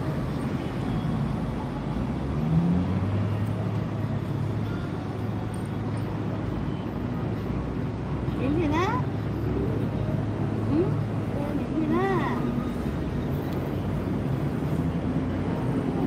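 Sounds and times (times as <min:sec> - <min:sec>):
engine hum: 0:00.0 - 0:16.0
motor vehicle rumble: 0:00.0 - 0:16.0.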